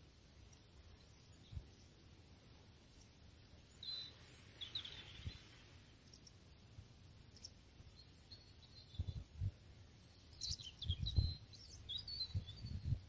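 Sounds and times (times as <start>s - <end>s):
faint steady hiss: 0.0s - 13.0s
small birds chirping: 0.3s - 13.0s.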